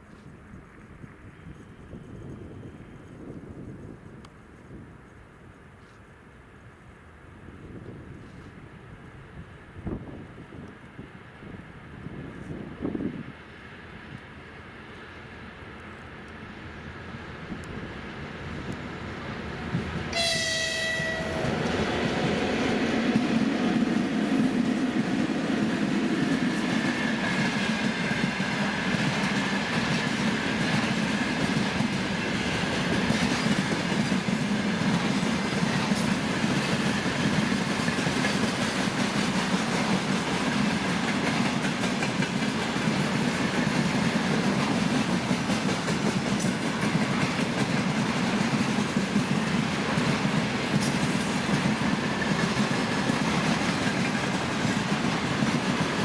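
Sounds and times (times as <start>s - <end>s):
freight train rumbling past: 7.3s - 56.0s.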